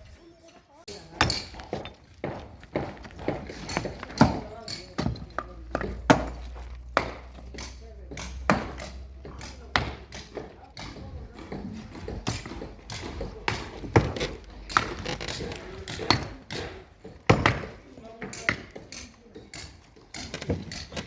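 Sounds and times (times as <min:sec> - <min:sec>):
hand tools striking hard material: 0:00.9 - 0:21.0.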